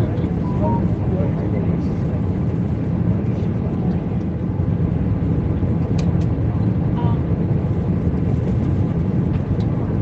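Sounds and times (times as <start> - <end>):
airplane cabin hum: 0.0 - 10.0.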